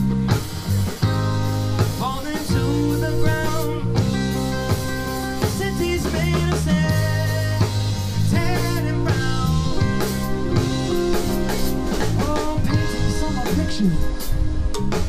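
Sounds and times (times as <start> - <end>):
drum kit beat: 0.0 - 15.0
electric bass: 0.0 - 15.0
electric guitar: 0.0 - 15.0.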